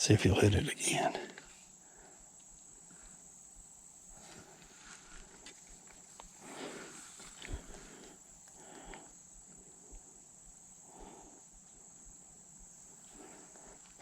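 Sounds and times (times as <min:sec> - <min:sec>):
crickets droning: 0:00.0 - 0:14.0.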